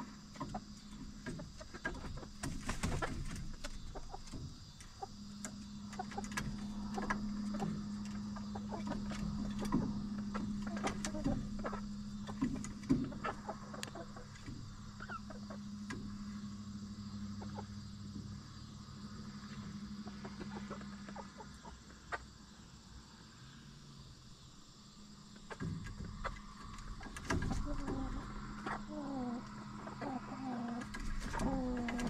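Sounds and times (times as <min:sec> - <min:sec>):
hens clucking: 0:00.0 - 0:22.8, 0:25.2 - 0:32.0.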